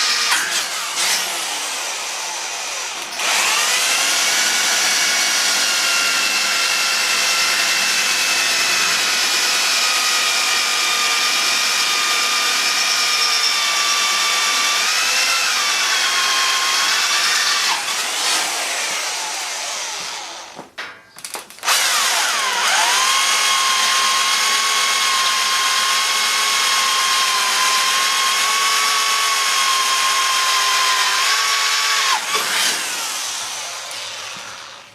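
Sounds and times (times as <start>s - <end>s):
power drill drilling metal: 0.0s - 20.6s, 21.6s - 34.9s.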